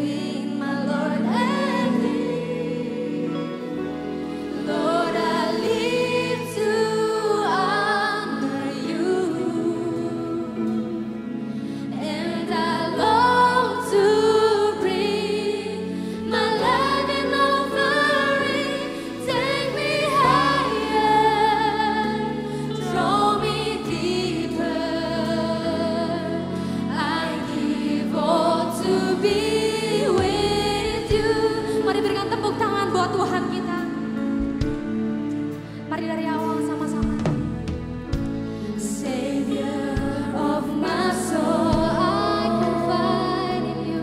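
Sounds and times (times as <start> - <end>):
woman singing into microphone: 0.0 - 3.6, 4.5 - 11.3, 11.9 - 34.0, 38.8 - 44.0
female backing singers: 0.0 - 11.2, 11.8 - 33.9, 38.6 - 44.0
instrumental accompaniment: 0.5 - 44.0.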